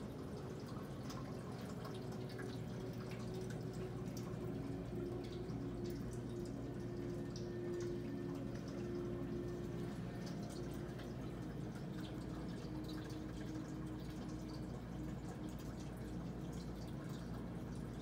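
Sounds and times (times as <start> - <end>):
steady hum: 0.0 - 18.0
water dripping and trickling: 0.0 - 18.0.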